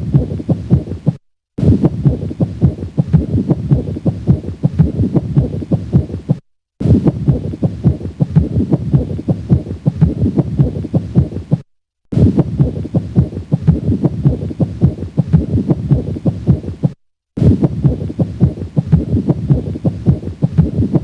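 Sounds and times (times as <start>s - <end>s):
heartbeat through stethoscope: 0.0s - 21.0s.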